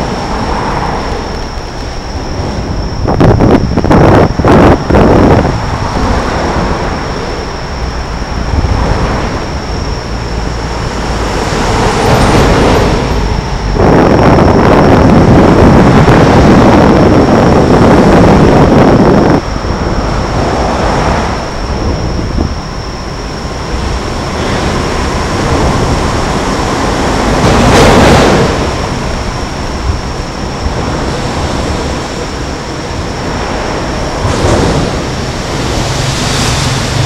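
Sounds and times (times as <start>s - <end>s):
passing vehicles rushing: 0.0s - 16.3s, 19.4s - 22.3s, 23.1s - 37.0s
wind on microphone: 0.0s - 37.0s.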